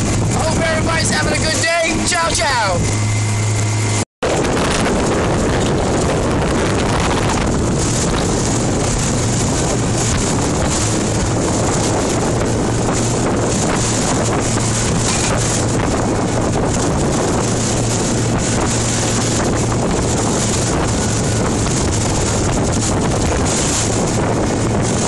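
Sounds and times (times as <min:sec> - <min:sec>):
motorboat engine drone: 0:00.0 - 0:25.0
wind noise on microphone: 0:00.0 - 0:25.0.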